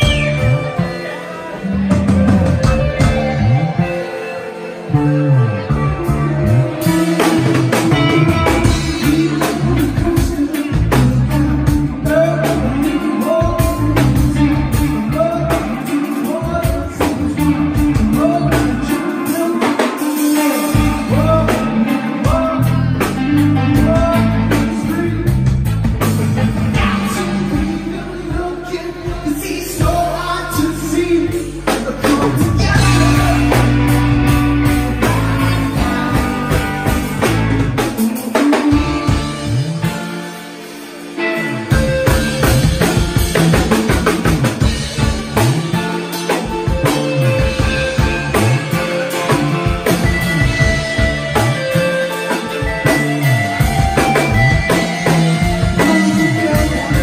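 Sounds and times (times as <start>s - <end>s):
person singing: 0.0s - 25.7s, 26.4s - 39.9s, 41.1s - 57.0s
live rock band playing: 0.0s - 57.0s.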